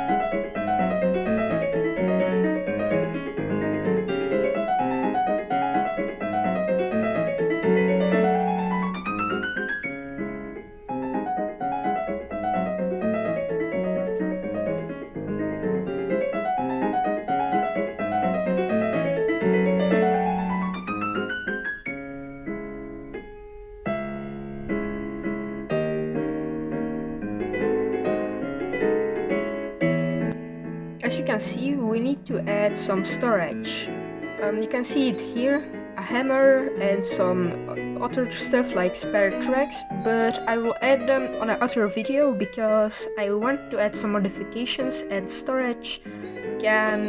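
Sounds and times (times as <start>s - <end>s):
piano music: 0.0s - 47.0s.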